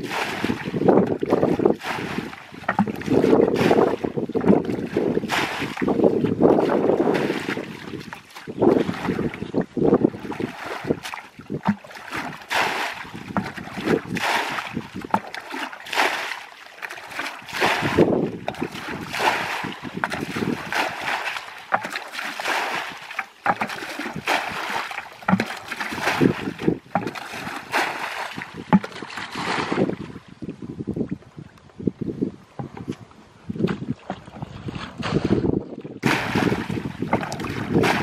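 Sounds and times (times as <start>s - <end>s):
water splashing from bucket: 0.0s - 30.1s, 33.6s - 38.0s.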